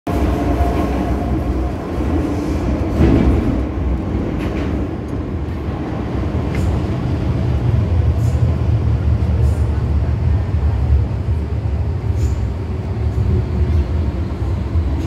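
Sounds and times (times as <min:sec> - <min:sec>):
train wheels rumbling on track: 0:00.1 - 0:15.0.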